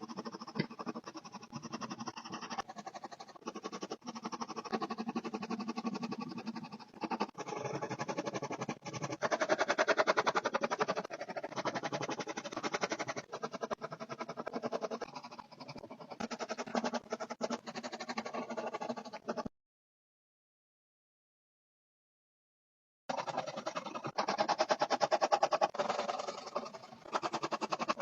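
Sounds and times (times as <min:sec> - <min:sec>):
pencil scratching on paper: 0:00.0 - 0:19.5, 0:23.1 - 0:28.0.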